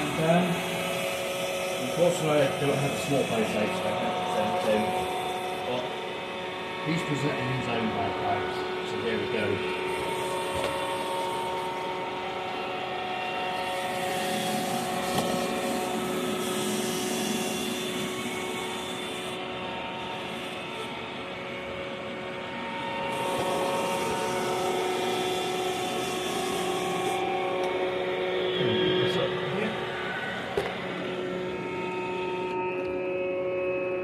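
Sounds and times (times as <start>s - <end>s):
robot vacuum whirring: 0.0s - 33.0s.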